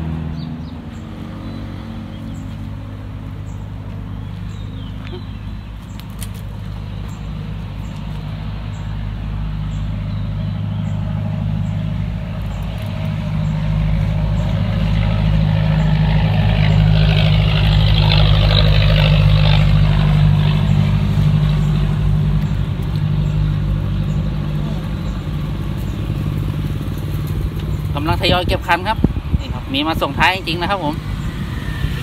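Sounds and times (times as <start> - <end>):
vehicle engine humming: 0.0 - 32.0.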